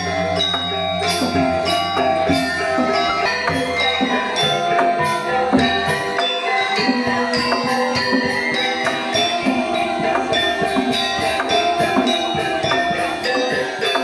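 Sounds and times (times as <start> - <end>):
gamelan playing: 0.0 - 14.0.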